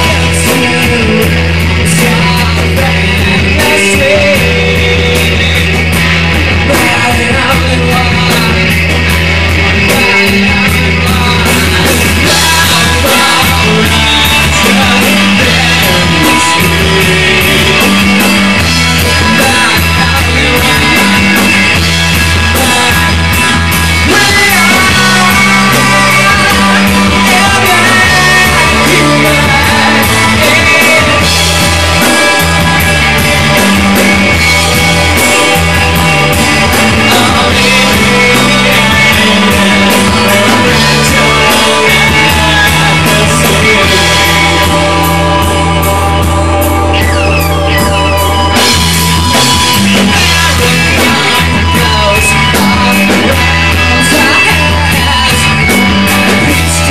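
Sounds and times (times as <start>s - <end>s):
bass guitar: 0.0s - 56.9s
drum kit: 0.0s - 56.9s
electric guitar: 0.0s - 56.9s
person singing: 0.0s - 56.9s.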